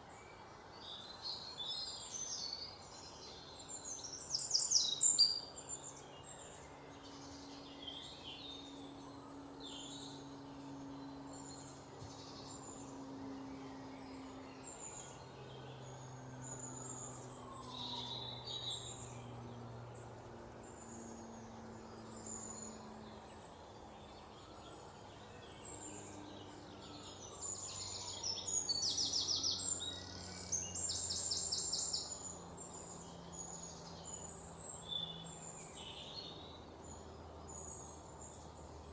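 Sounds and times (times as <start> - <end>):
faint low hum: 0.0 - 38.9
songbirds chirping: 0.0 - 38.9.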